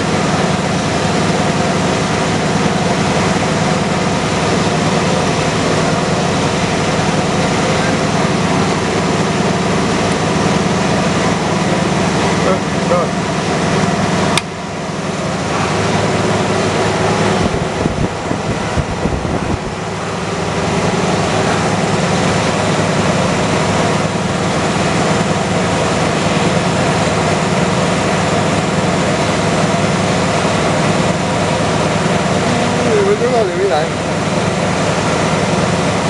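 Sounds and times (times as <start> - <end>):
balancing machine mechanical hum: 0.0 - 36.0.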